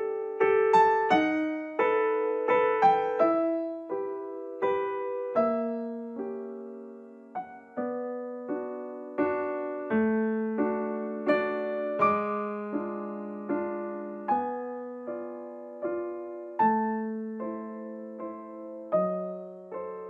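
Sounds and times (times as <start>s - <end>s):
slow gentle piano music: 0.0s - 20.0s.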